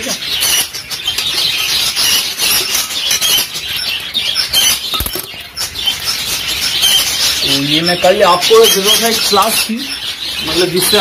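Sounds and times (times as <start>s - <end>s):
budgerigars chattering and chirping: 0.0s - 11.0s.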